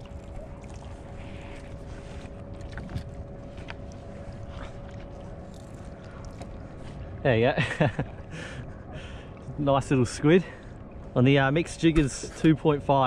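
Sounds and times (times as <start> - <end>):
water splashing around kayak: 0.0 - 11.2
faint steady hum: 0.0 - 13.0
wind: 0.0 - 13.0.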